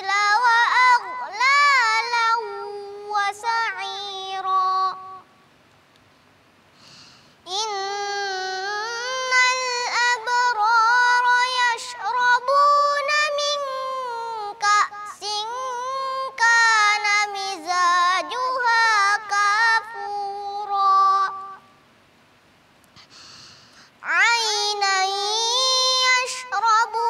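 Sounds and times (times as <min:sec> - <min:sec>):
boy chanting melodically: 0:00.0 - 0:05.4, 0:07.4 - 0:21.8, 0:23.7 - 0:27.0.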